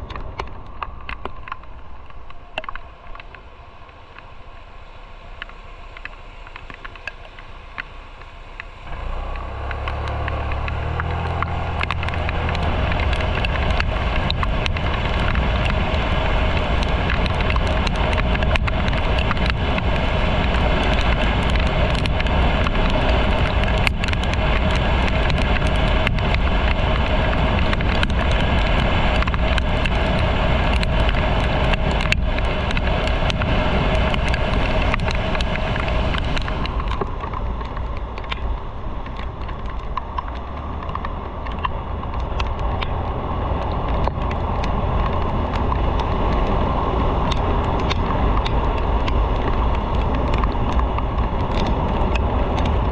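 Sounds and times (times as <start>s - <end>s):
wind rushing over microphone: 0.0s - 52.9s
motorcycle engine running: 1.4s - 52.9s.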